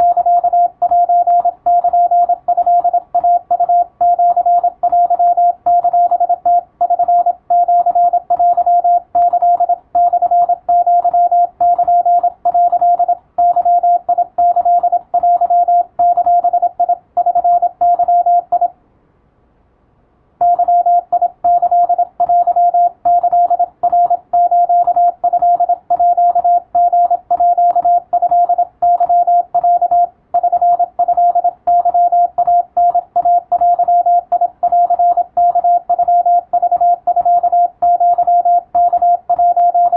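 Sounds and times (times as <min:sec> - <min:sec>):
morse code beeps: 0:00.0 - 0:18.7, 0:20.4 - 0:39.9.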